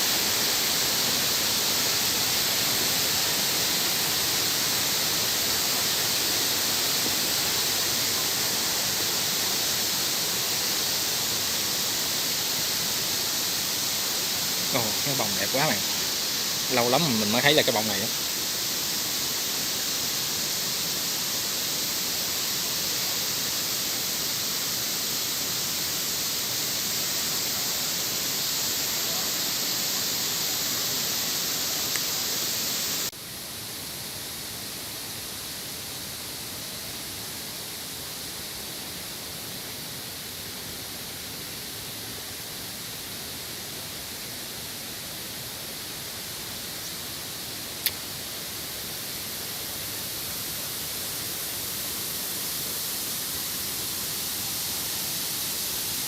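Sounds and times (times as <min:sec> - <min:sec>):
waterfall rushing: 0:00.0 - 0:33.1, 0:34.6 - 0:56.0.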